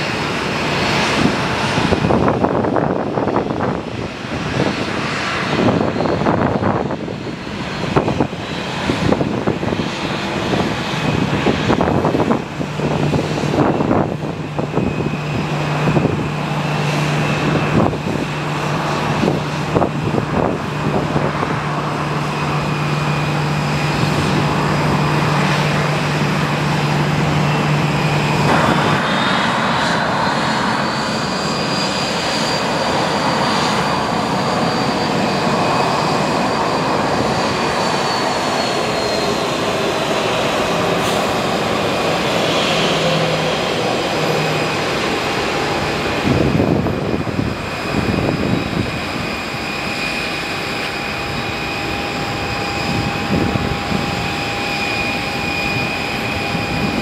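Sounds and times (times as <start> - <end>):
jet engine whine: 0.0 - 57.0
second jet engine whine rising: 0.0 - 57.0.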